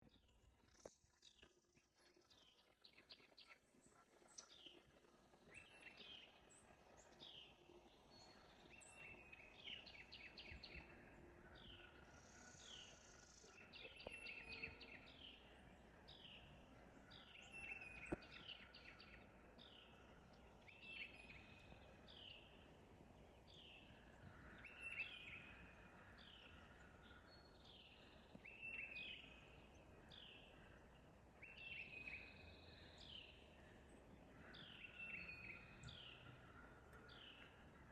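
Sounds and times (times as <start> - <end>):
faint bird chirps and trills: 0.0 - 37.9.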